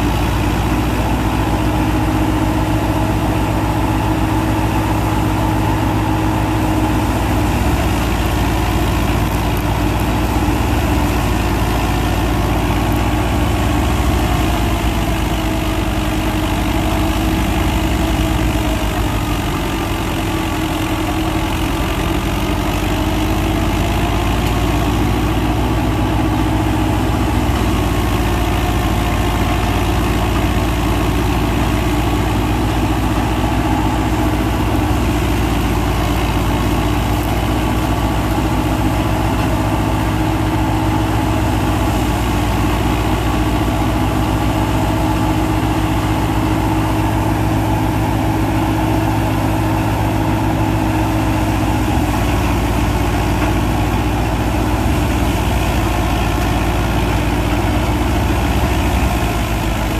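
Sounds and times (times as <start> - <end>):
tractor engine and thresher drone: 0.0 - 59.9.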